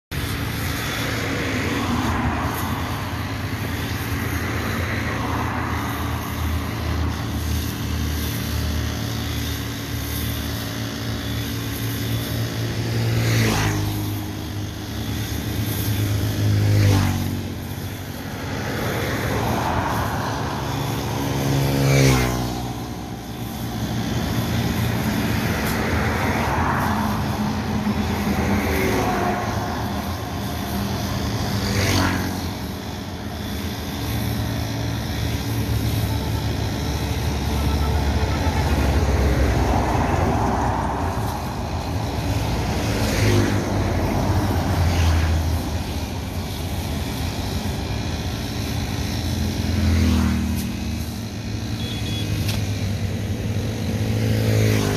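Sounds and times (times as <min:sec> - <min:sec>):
vehicles passing: 0:00.0 - 0:54.9
brush cutter running: 0:00.1 - 0:54.9.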